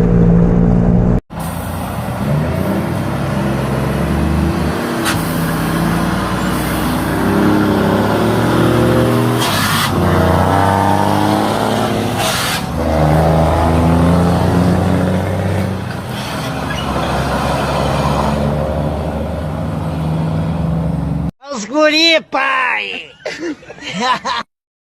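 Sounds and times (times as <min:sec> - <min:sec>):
diesel truck engine revving: 0:00.0 - 0:21.3.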